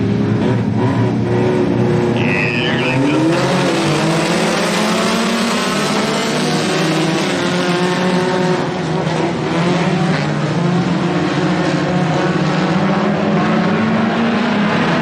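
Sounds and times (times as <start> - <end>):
race car engines racing: 0.0 - 15.0.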